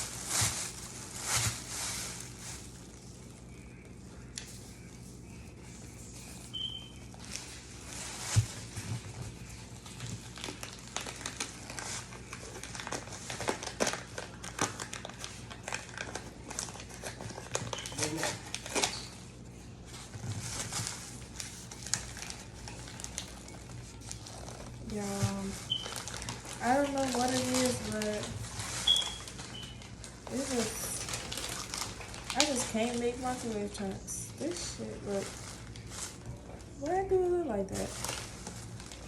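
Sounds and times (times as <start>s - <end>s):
plastic wrap crinkling: 0.0s - 39.0s.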